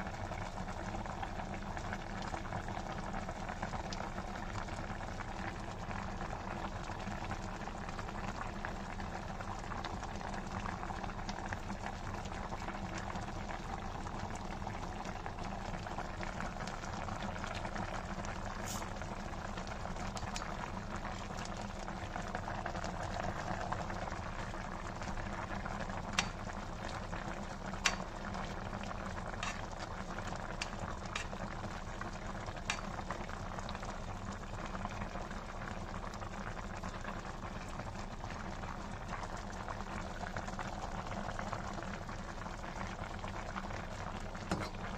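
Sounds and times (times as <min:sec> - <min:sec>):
soup bubbling in pot: 0:00.0 - 0:44.9.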